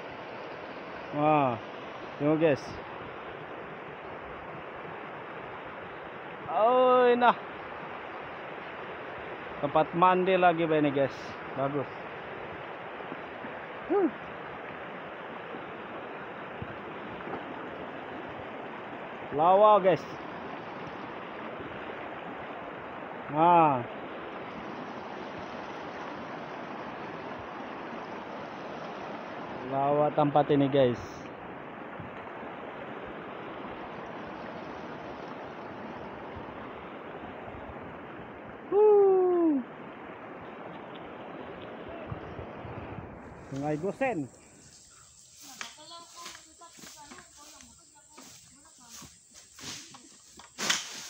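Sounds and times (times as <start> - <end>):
river rushing over rocks: 0.0 - 44.5.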